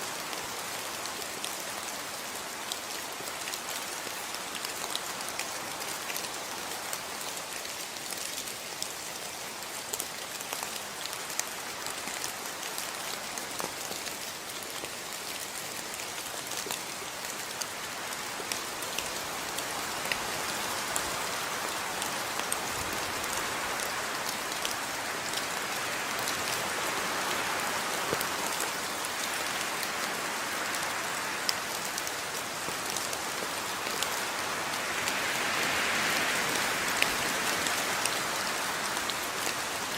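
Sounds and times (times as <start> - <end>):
steady rainfall: 0.0 - 39.9
raindrops ticking on surface: 0.1 - 39.9.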